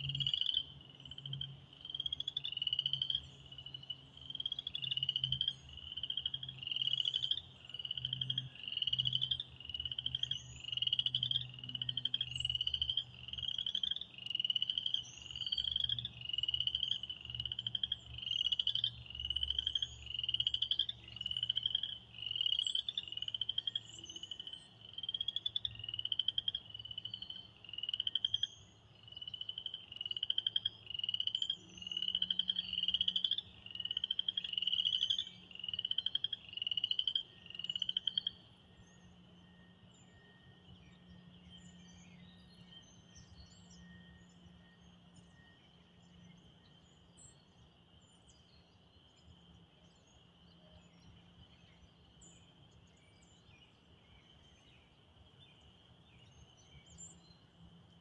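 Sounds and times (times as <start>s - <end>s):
frogs peeping: 0.0s - 48.2s.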